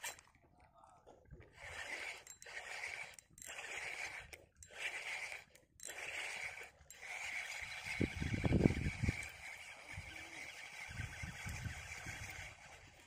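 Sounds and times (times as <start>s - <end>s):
faint rhythmic scraping: 0.0s - 13.0s.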